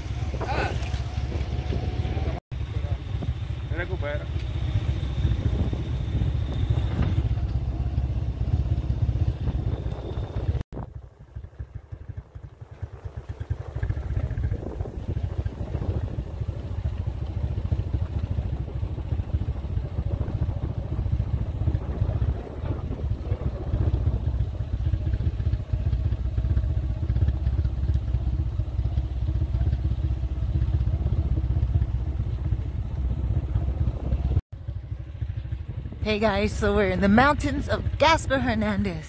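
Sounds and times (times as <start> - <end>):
road and wind rumble: 0.0 - 39.0
vehicle engine running: 0.0 - 39.0.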